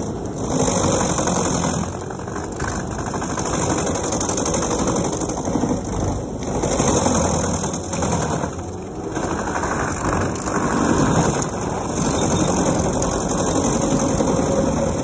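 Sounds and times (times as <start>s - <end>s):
engine running: 0.0s - 15.0s
stump grinder cutter chewing: 0.0s - 15.0s.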